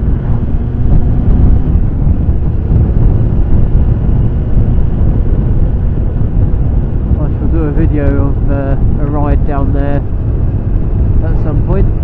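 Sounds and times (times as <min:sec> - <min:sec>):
motorcycle engine running: 0:00.0 - 0:12.0
wind rush over microphone: 0:00.0 - 0:12.0.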